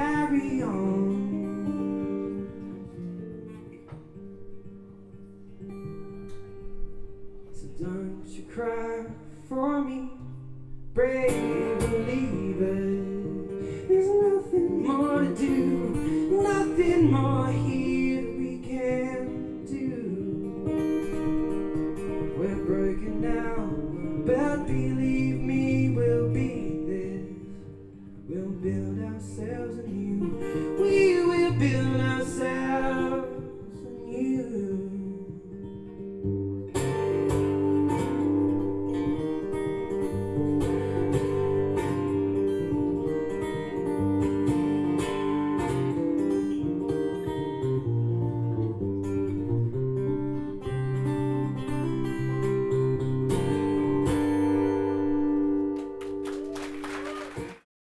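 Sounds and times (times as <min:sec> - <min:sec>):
acoustic guitar strumming: 0:00.0 - 0:57.6.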